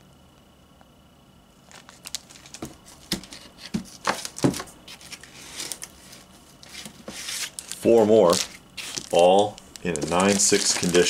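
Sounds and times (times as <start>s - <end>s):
cardboard rustling: 1.6s - 11.0s
plastic crinkling: 1.6s - 11.0s.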